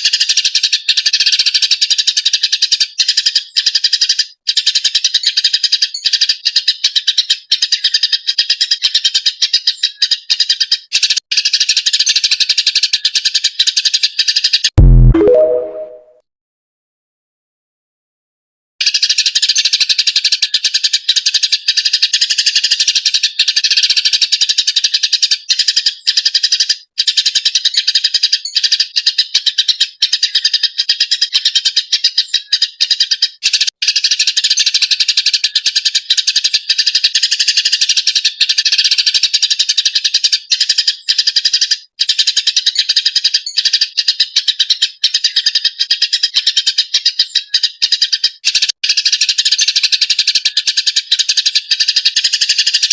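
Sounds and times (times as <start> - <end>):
sparrow chirping: 0.0 - 14.6, 18.8 - 52.9.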